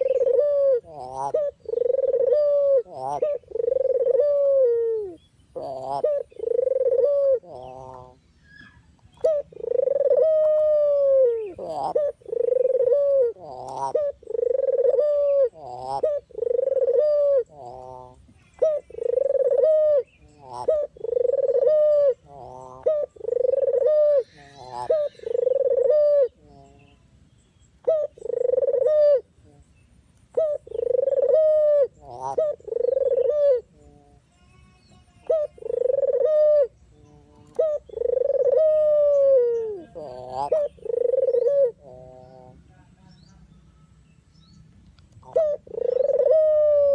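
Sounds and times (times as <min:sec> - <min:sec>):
collared dove cooing: 0:00.0 - 0:27.1, 0:27.7 - 0:29.7, 0:30.3 - 0:34.3, 0:35.2 - 0:42.7, 0:45.1 - 0:46.9.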